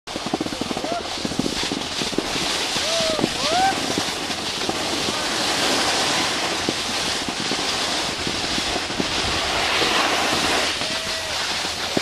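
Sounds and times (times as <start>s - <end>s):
snowboard scraping over snow: 0.1s - 12.0s
wind hissing on microphone: 0.1s - 12.0s.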